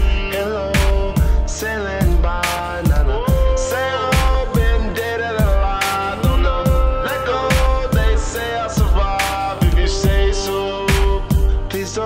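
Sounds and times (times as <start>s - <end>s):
pop music with kick drum: 0.0s - 12.0s.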